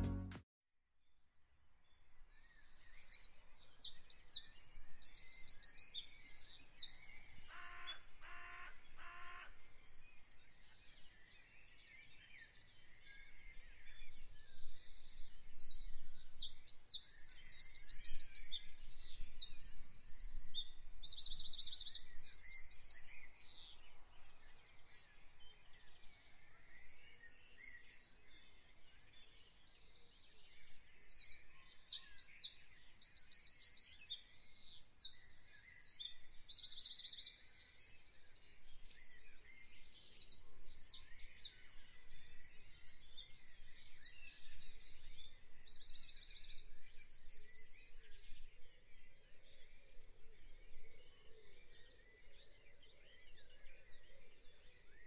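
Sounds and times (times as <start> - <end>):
songbirds trilling and chirping: 2.4 - 55.0.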